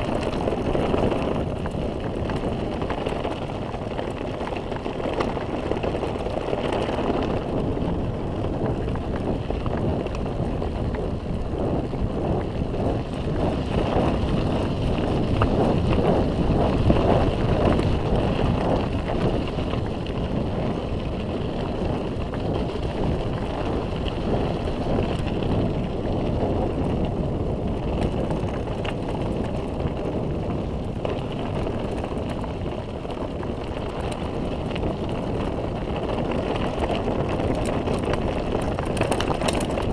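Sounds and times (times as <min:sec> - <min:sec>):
bike tyre noise and rattling: 0:00.0 - 0:39.9
wind rushing over microphone: 0:00.0 - 0:39.9.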